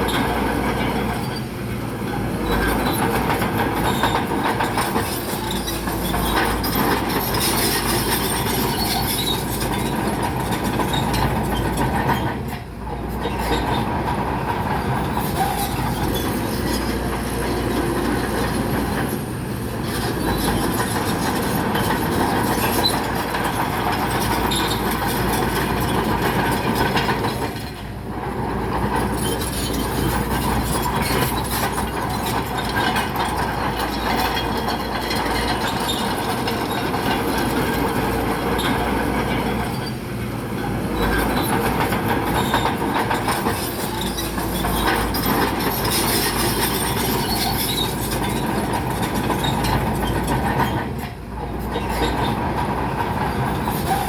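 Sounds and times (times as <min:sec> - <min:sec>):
bulldozer engine under load: 0:00.0 - 0:54.0
steel tracks clanking: 0:00.0 - 0:54.0.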